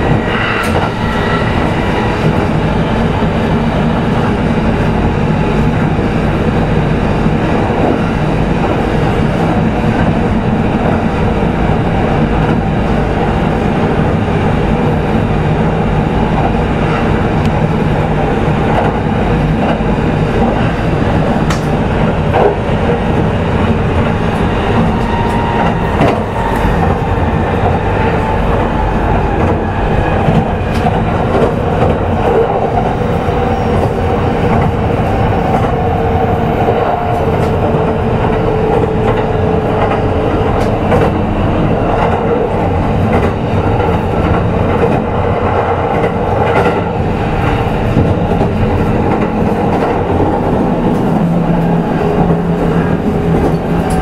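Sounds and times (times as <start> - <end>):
rail joint clicks: 0.0 - 54.0
wheels rumbling on rail: 0.0 - 54.0.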